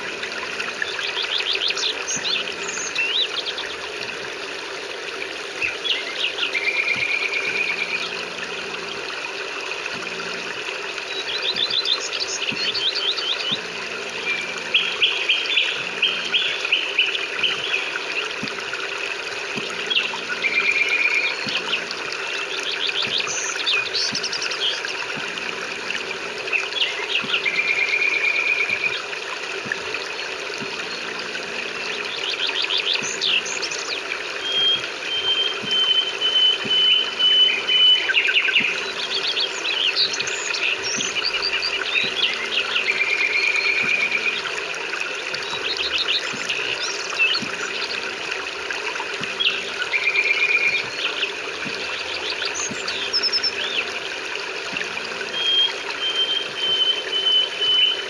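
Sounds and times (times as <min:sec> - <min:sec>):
songbirds chirping and trilling: 0:00.0 - 0:04.4, 0:05.4 - 0:58.0.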